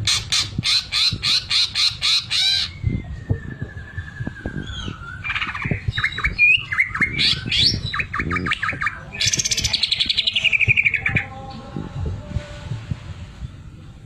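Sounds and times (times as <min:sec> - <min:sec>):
bird chirping and whistling: 0:00.0 - 0:11.3.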